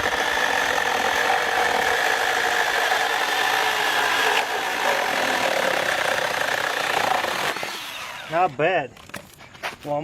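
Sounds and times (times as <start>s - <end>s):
electric chainsaw cutting wood: 0.0s - 8.5s.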